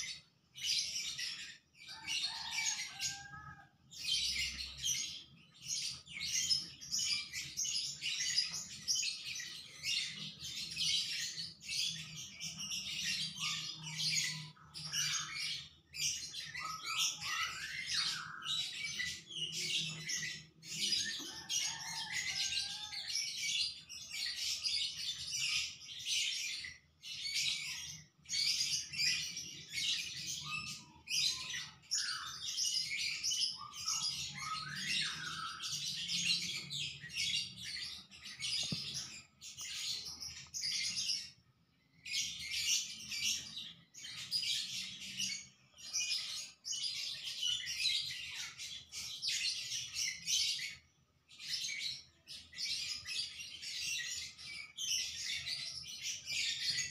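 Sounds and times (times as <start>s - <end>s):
birds chirping chorus: 0.0s - 56.9s.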